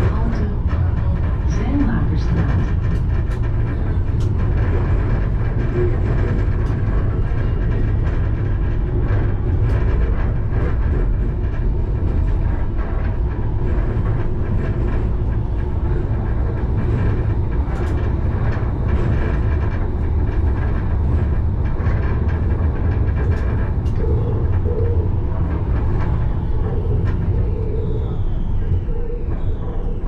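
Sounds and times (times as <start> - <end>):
tram wheels rumbling on rail: 0.0 - 30.0.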